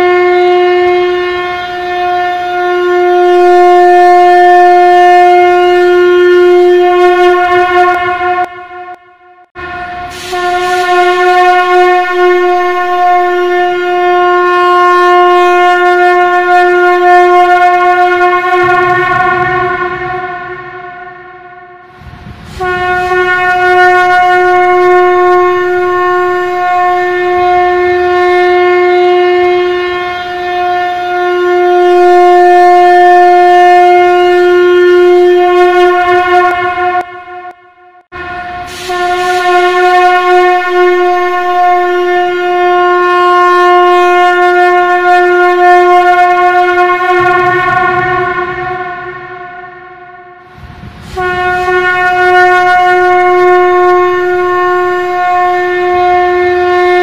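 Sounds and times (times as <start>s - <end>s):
conch shell blasts: 0.0s - 57.0s.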